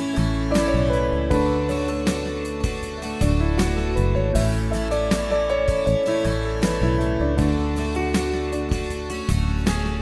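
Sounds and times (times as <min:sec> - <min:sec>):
plucked guitar notes: 0:00.0 - 0:10.0
bass line: 0:00.2 - 0:10.0.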